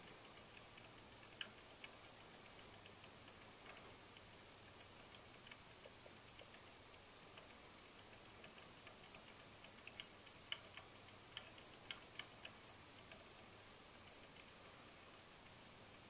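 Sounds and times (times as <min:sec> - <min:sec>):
faint ticking clicks: 0:00.0 - 0:16.0.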